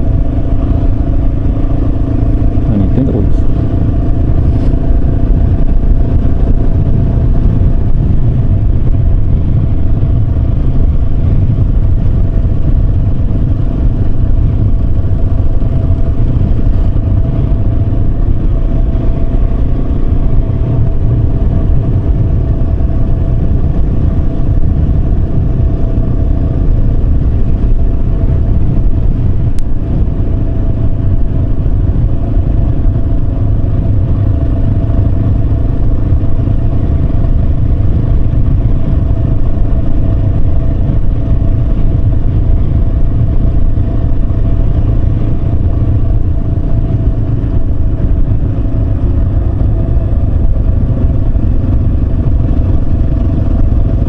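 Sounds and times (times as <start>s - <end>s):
motorcycle engine cruising: 0.0s - 54.0s
wind rumble on microphone: 0.0s - 54.0s.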